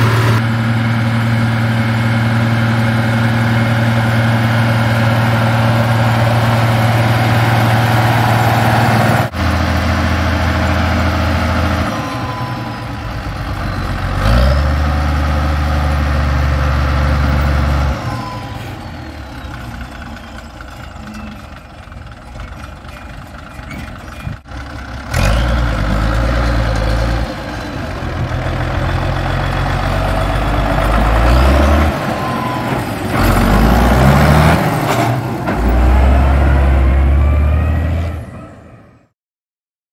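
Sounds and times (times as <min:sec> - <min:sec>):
tractor diesel engines running: 0:00.0 - 0:39.1.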